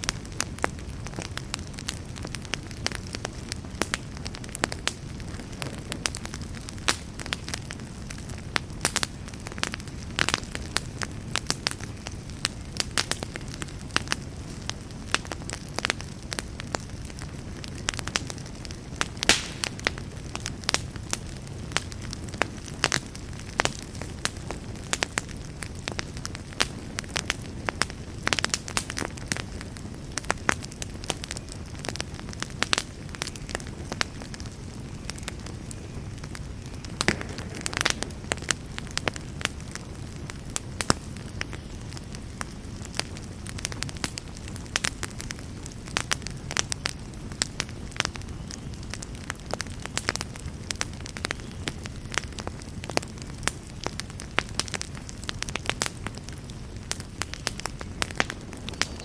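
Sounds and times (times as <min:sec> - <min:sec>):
campfire flames rumbling: 0:00.0 - 0:59.0
fire crackling and popping: 0:00.0 - 0:59.0.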